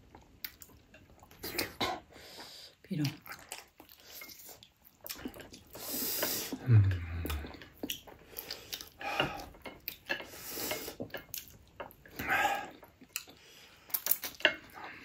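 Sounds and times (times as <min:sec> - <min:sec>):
chewing and mouth noises: 0:00.0 - 0:15.0.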